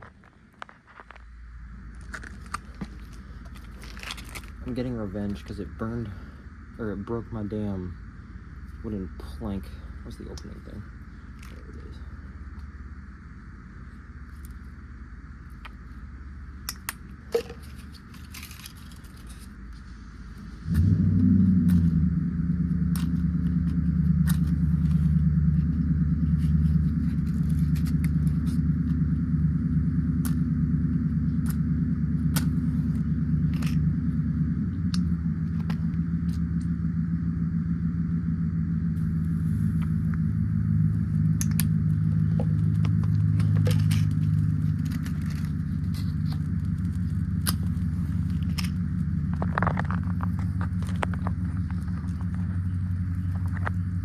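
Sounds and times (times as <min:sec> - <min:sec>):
sharp crackles and pops: 0:00.0 - 0:06.1, 0:16.6 - 0:54.0.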